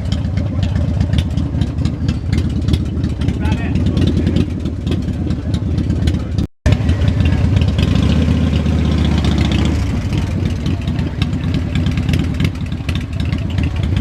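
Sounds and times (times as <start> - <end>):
motorcycle engines idling: 0.0 - 14.0.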